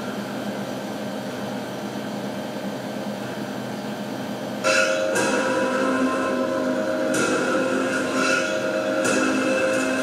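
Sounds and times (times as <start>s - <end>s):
vending machine fan and compressor hum: 0.0s - 10.0s.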